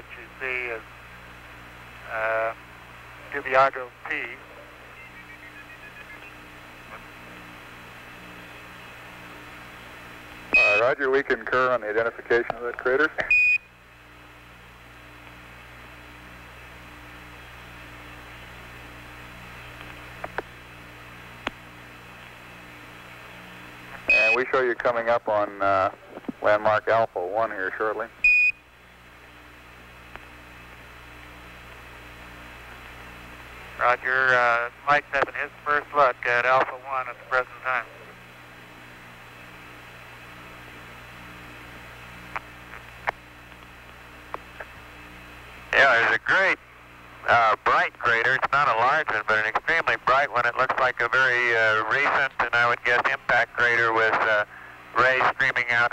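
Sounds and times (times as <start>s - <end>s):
radio channel hiss: 0.0s - 13.3s, 14.7s - 28.2s, 29.0s - 55.9s.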